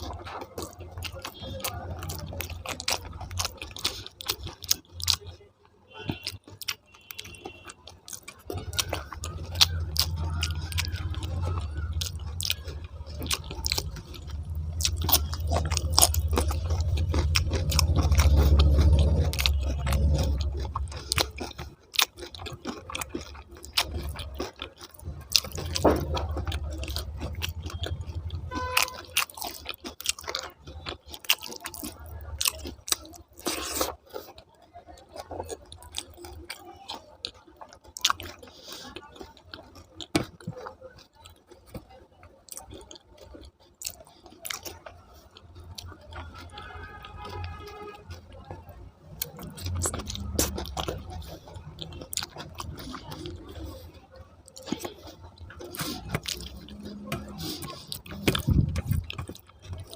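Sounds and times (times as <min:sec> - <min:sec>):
close-miked chewing: 0:00.0 - 0:59.9.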